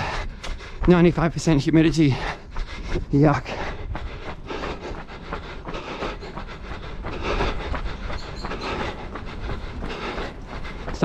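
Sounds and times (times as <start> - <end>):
running footfalls: 0.0 - 11.0
wind rumbling on microphone: 0.0 - 11.0.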